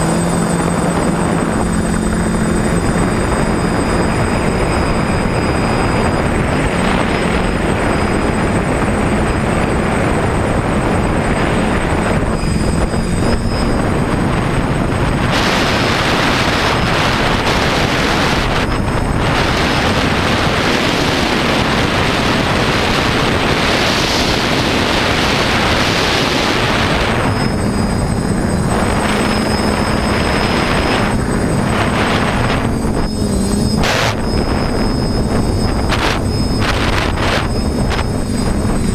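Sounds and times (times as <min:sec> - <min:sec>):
drone motors whirring: 0:00.0 - 0:38.9.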